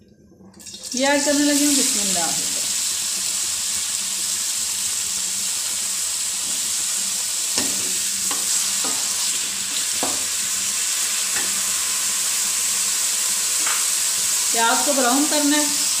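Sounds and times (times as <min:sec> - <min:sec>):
onions sizzling in oil: 0:00.6 - 0:16.0.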